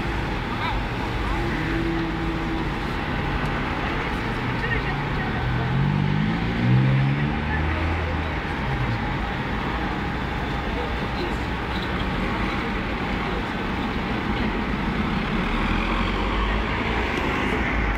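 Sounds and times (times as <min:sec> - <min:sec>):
people talking: 0:00.0 - 0:14.8, 0:15.9 - 0:17.7
vehicle engines idling: 0:00.0 - 0:17.9.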